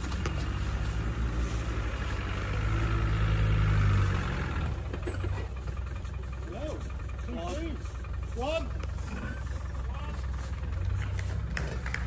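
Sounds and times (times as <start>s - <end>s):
car engine pulling at low speed: 0.0s - 12.0s.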